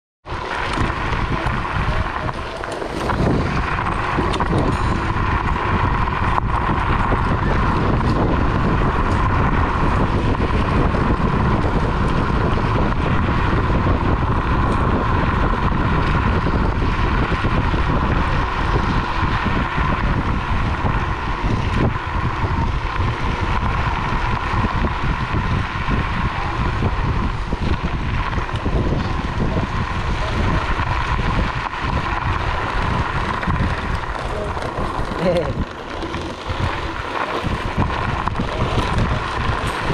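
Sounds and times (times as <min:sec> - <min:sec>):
wind buffeting microphone: 0:00.2 - 0:39.9
high electric motor whine: 0:00.3 - 0:39.9
tyre rumble: 0:00.3 - 0:39.9.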